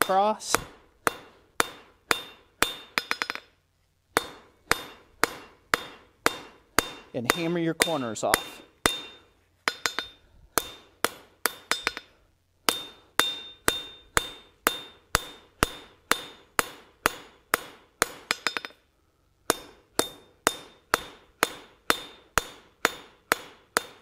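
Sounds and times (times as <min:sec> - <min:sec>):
hammer striking steel on anvil: 0:00.0 - 0:03.5, 0:04.2 - 0:18.8, 0:19.4 - 0:24.0.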